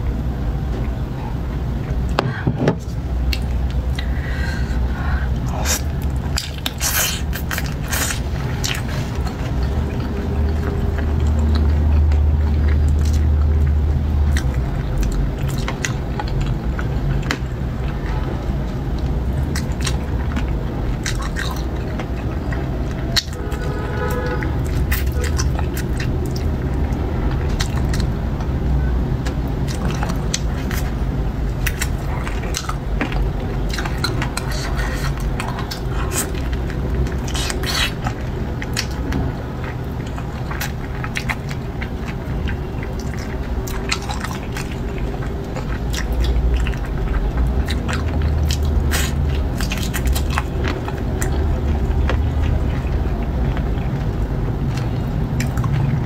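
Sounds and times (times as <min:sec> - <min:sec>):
steady low rumble: 0:00.0 - 0:56.0
wet chewing and sucking: 0:02.9 - 0:56.0.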